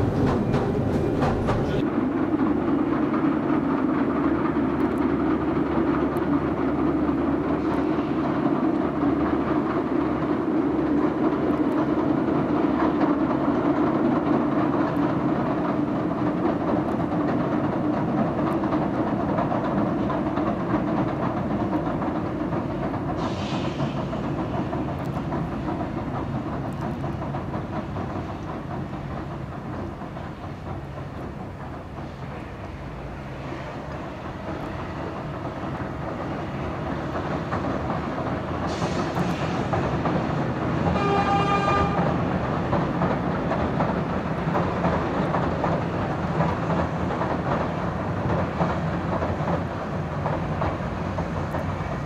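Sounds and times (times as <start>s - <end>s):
train rumbling along: 0.0s - 52.0s.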